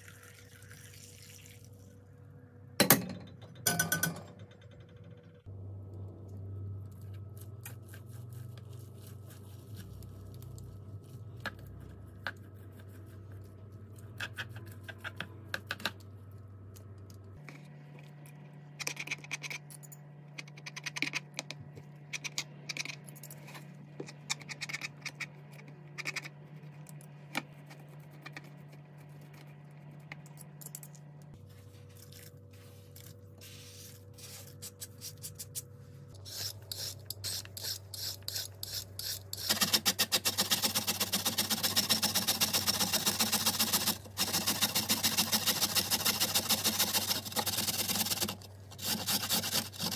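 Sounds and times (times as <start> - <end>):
steady low hum: 1.6 - 49.9.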